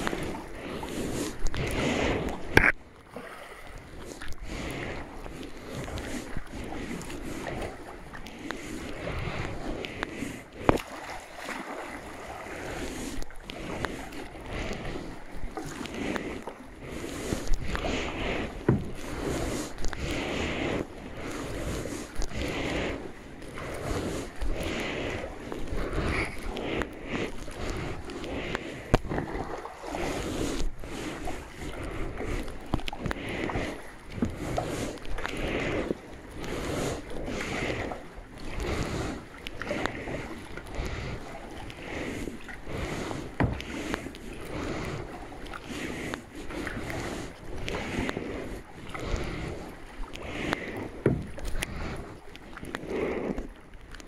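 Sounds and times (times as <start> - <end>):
paddle dipping and splashing: 0.0 - 54.0.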